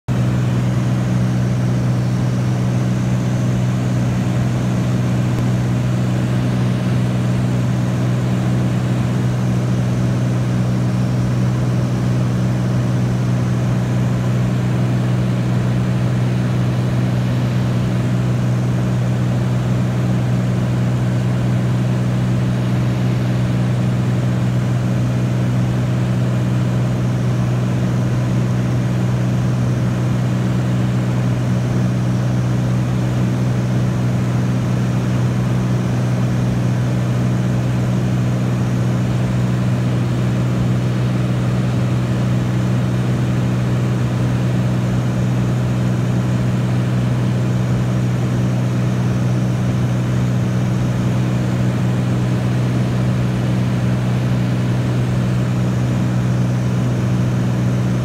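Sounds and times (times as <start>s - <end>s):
propeller plane engine droning: 0.1s - 58.0s.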